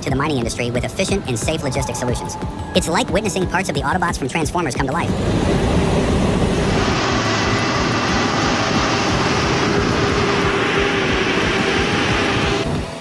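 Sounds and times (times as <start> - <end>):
constant whine: 0.0 - 13.0
heavy vehicle engine drone: 0.0 - 13.0
rushing noise: 0.0 - 13.0.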